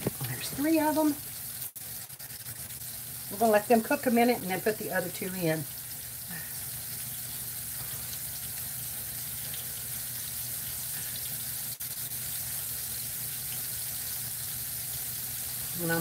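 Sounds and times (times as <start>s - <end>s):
steaks sizzling in a skillet: 0.0s - 16.0s.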